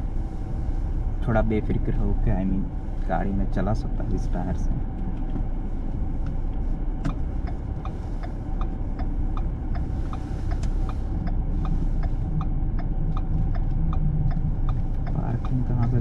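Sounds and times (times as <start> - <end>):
car engine: 0.0 - 16.0
turn signal ticking: 0.0 - 16.0.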